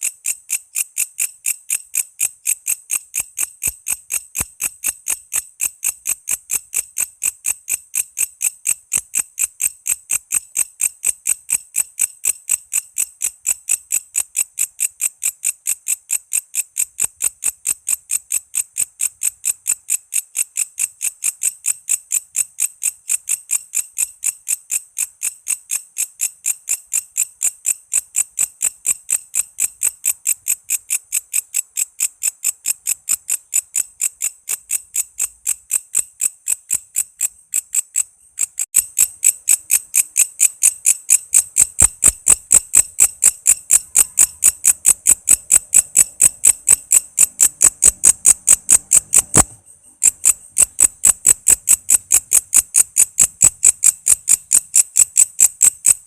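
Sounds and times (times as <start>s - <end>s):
katydid chirping: 0.0s - 56.0s.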